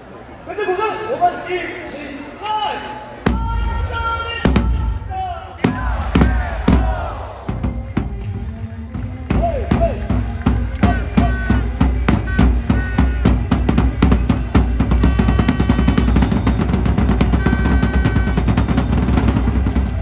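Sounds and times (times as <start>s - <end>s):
cheer drums beating: 3.2s - 20.0s
cheer music: 3.2s - 20.0s.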